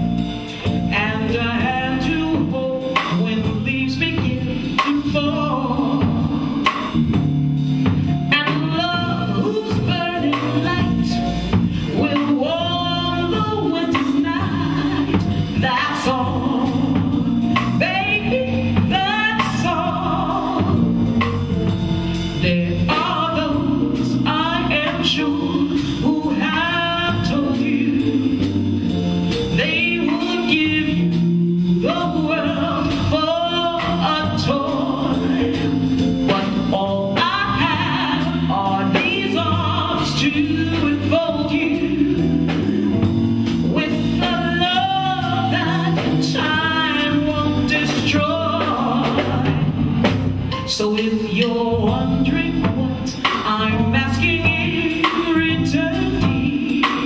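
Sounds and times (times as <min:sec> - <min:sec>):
band with electric guitar and drums: 0:00.0 - 0:57.0
woman singing into a microphone: 0:00.7 - 0:07.0, 0:08.3 - 0:21.0, 0:22.3 - 0:49.8, 0:50.6 - 0:57.0.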